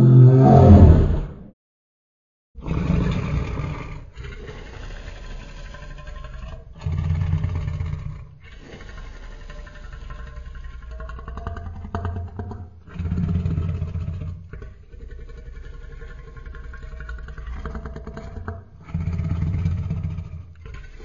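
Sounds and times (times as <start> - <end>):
deep dinosaur growl: 0.0 - 1.5, 2.6 - 21.0.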